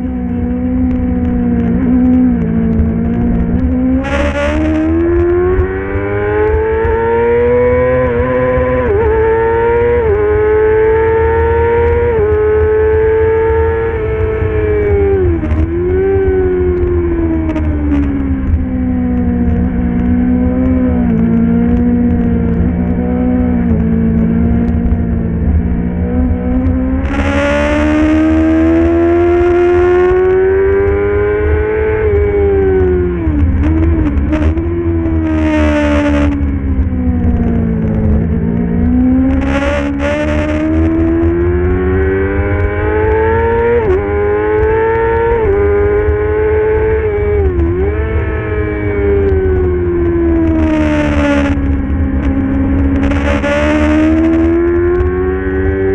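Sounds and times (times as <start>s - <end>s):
racing motorcycle engine revving: 0.0s - 55.9s.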